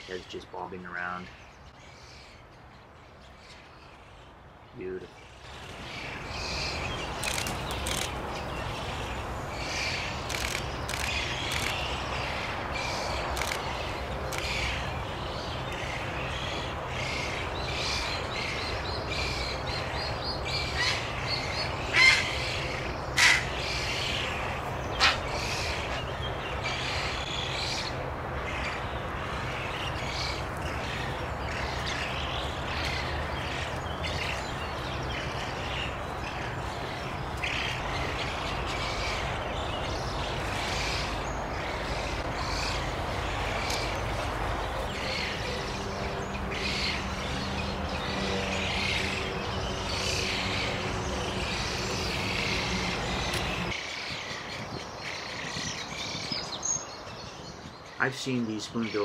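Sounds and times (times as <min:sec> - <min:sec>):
loud sharp bird calls: 0:00.0 - 0:59.0
young birds begging calls: 0:03.4 - 0:59.0.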